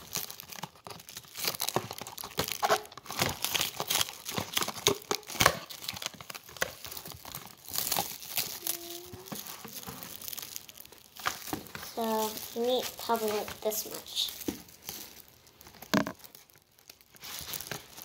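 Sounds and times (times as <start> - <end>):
aluminum foil crinkling: 0.0 - 18.0.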